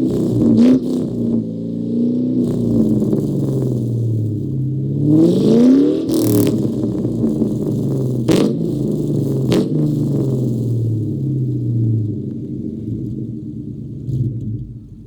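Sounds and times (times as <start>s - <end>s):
car exhaust idling with throttle blip: 0.0s - 15.0s
sharp exhaust cracks: 0.0s - 15.0s.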